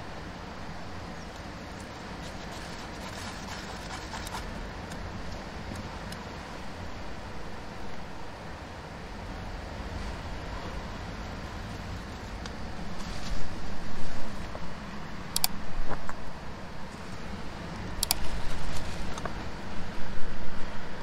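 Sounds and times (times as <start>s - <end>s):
wind and surf rumble: 0.0s - 21.0s.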